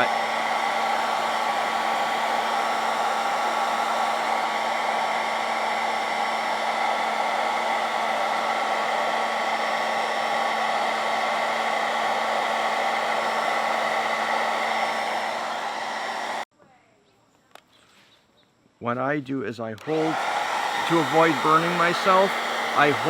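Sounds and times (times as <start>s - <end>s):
hairdryer blowing: 0.0s - 16.5s, 19.8s - 23.0s.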